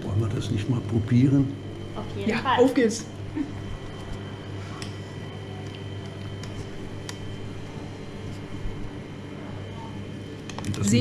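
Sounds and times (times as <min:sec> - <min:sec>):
bakery equipment humming: 0:00.0 - 0:11.0.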